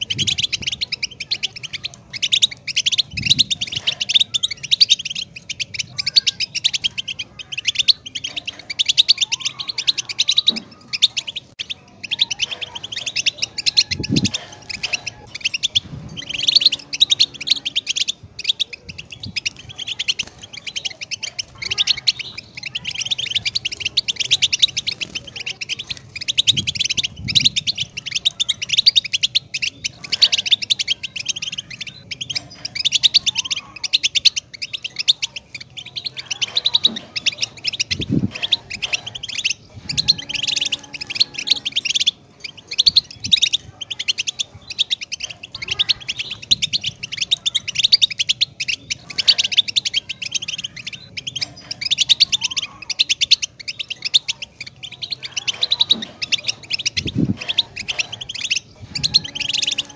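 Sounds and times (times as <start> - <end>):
bird twittering and trilling: 0.0 - 59.9.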